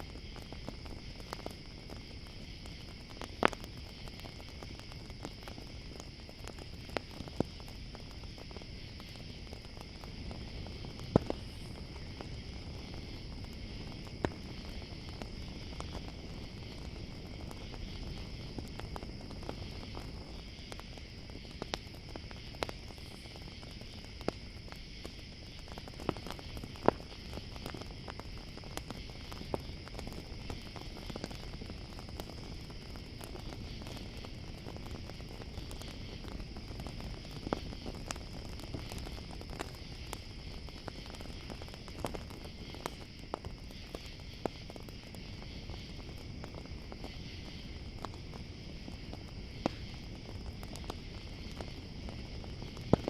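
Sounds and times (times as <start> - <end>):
campfire crackling: 0.0 - 53.0
crickets chirring: 0.0 - 53.0.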